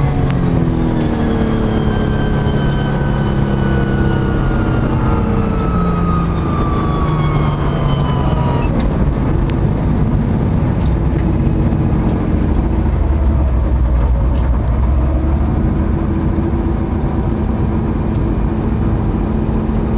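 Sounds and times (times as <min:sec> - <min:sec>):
car engine slowing to idle: 0:00.0 - 0:19.9.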